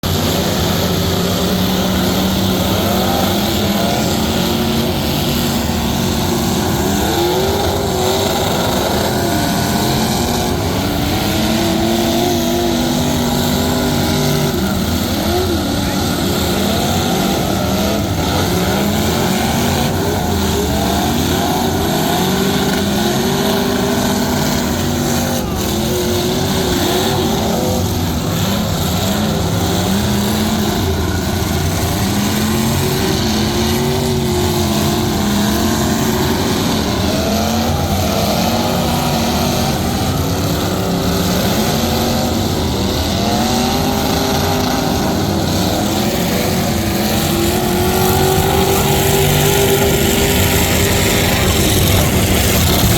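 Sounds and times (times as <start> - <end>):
truck engines revving: 0.0 - 52.9.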